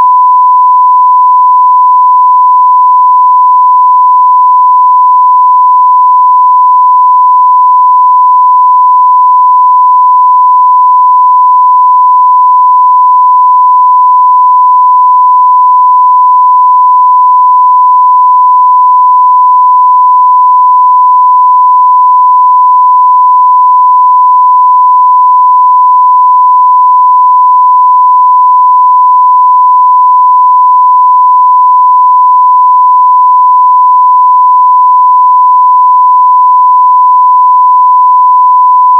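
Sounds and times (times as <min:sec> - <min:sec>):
sine wave test tone: 0:00.0 - 0:38.9.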